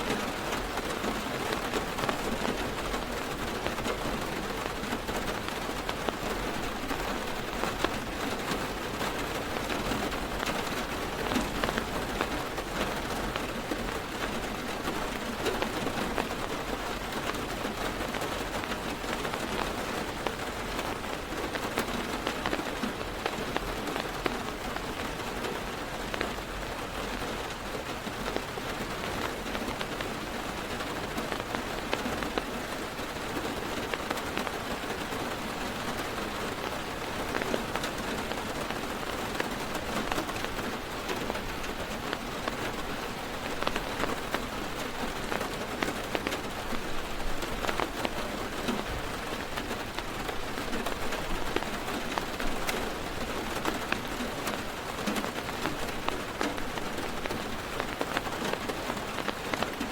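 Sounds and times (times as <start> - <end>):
heavy rain on car roof: 0.0 - 59.9.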